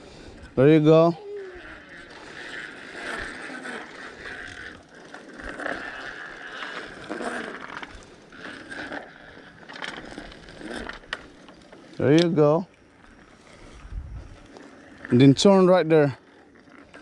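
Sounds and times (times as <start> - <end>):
bicycle freewheel ratcheting: 0.0 - 13.8, 14.4 - 17.0.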